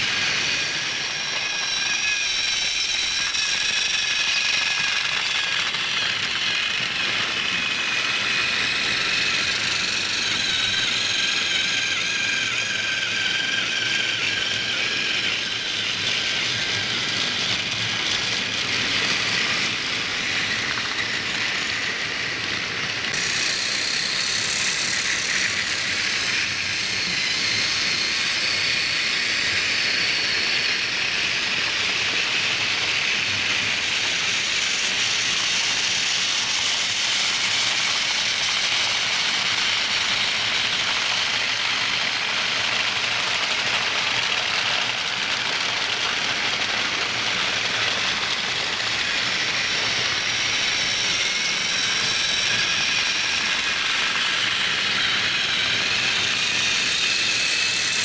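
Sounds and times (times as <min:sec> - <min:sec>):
toy train motors whirring: 0:00.0 - 0:58.0
toy train wheels rattling: 0:00.0 - 0:58.0.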